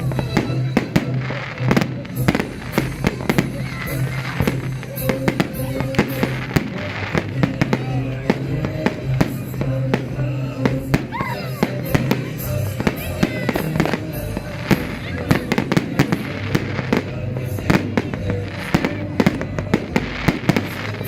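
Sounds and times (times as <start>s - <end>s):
fireworks and firecrackers exploding: 0.0s - 21.0s
music playing: 0.0s - 21.0s.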